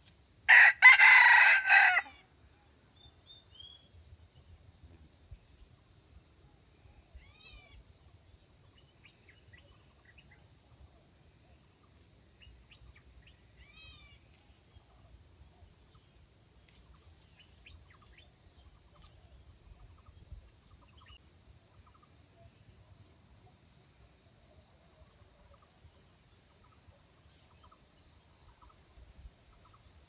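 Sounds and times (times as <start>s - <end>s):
faint bird calls and chirps: 2.1s - 30.0s.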